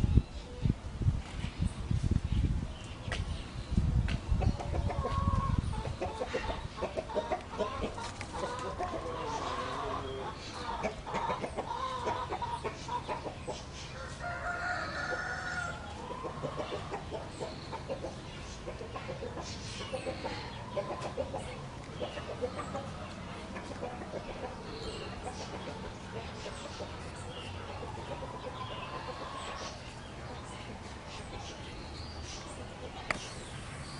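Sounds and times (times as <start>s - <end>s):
chickens clucking: 4.0s - 33.9s.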